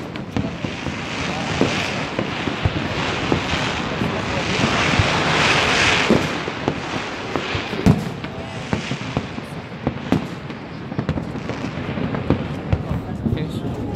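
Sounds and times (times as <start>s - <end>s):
fireworks bangs: 0.0s - 13.9s.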